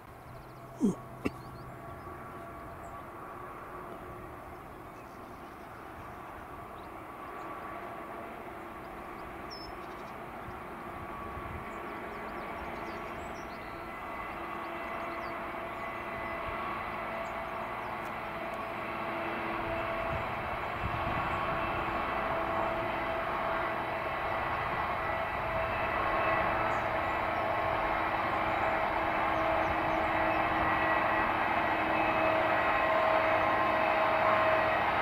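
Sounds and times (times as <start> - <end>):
diesel locomotive engine droning: 0.0 - 35.0.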